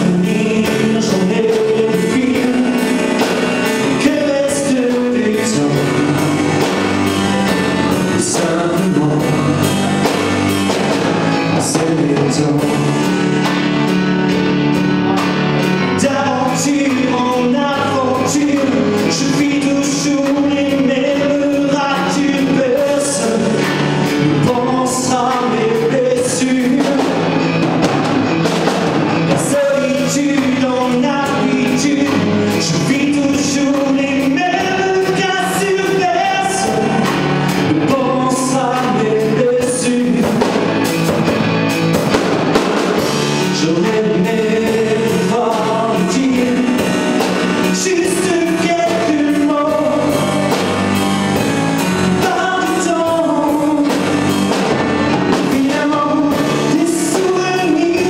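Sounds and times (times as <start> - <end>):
drum kit with cymbals: 0.0 - 58.0
person singing: 0.0 - 58.0.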